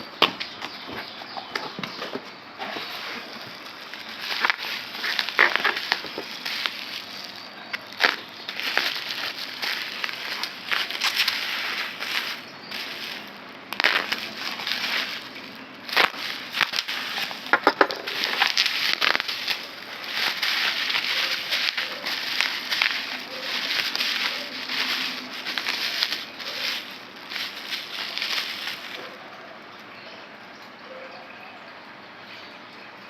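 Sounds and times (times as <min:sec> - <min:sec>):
packaging crinkling: 0:00.2 - 0:29.2.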